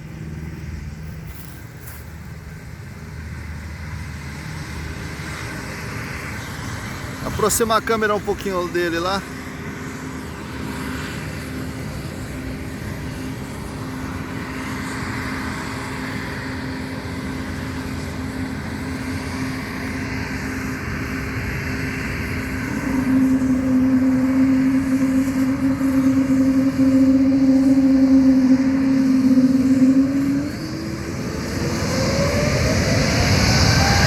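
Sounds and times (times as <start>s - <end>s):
constant-pitch hum: 0.0s - 34.0s
jet engines drone: 0.0s - 34.0s.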